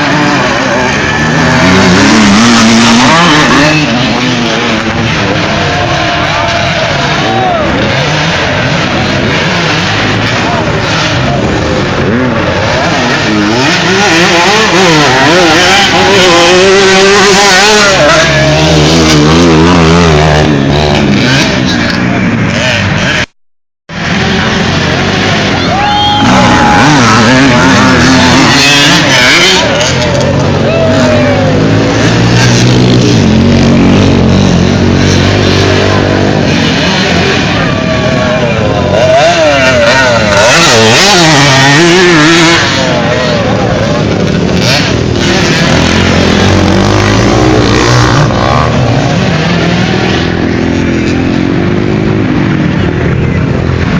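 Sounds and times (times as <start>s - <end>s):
motocross engines revving: 0.0s - 23.3s, 23.9s - 53.9s.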